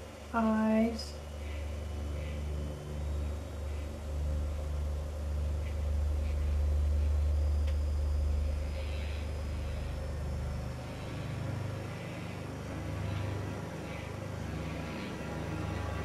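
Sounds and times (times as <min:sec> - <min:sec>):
dark ambient drone music: 0:00.0 - 0:16.0.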